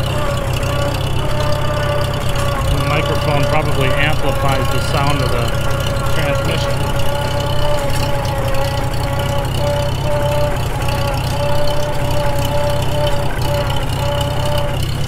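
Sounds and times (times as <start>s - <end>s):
tractor engine running: 0.0s - 15.0s
transmission gear whine: 0.0s - 15.0s.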